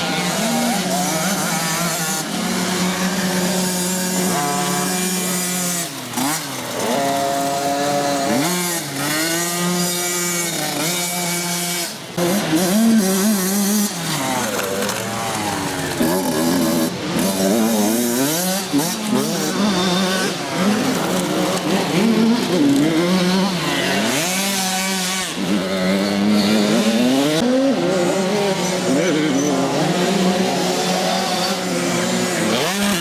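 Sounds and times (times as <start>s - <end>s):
motocross bike engines revving: 0.0s - 33.0s.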